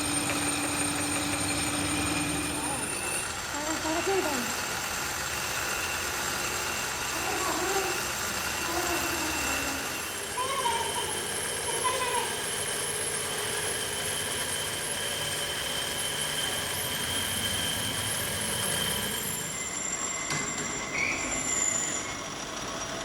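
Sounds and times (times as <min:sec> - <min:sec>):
high-pitched whine: 0:00.0 - 0:23.0
workshop machinery noise: 0:00.0 - 0:23.0.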